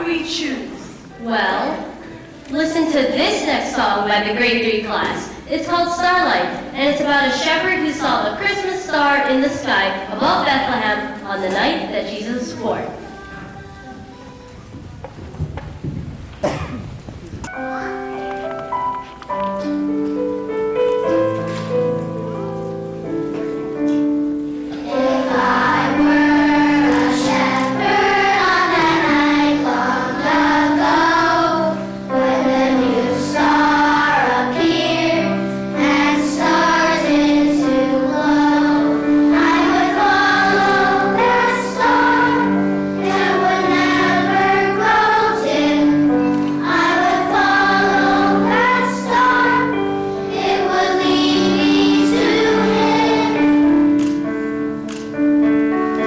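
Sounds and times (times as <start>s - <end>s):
children's choir singing: 0.0s - 15.2s, 17.5s - 56.0s
instrumental accompaniment: 0.0s - 56.0s.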